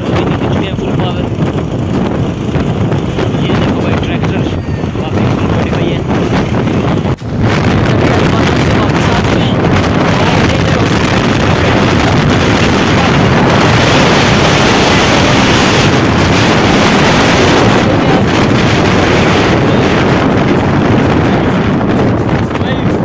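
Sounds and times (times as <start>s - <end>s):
motorcycle engine and road noise: 0.0s - 23.0s
wind rushing over microphone: 0.0s - 23.0s.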